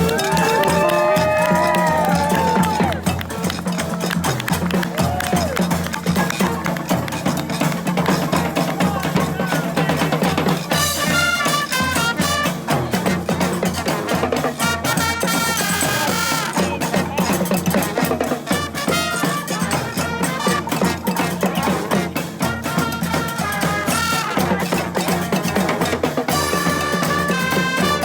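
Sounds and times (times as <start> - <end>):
brass band horns: 0.0 - 28.0
percussion beat: 0.0 - 28.0.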